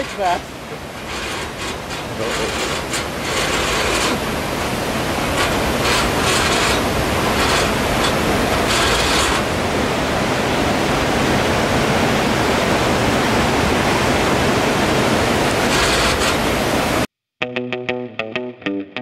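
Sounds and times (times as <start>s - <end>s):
river rapids rushing: 0.0s - 17.1s.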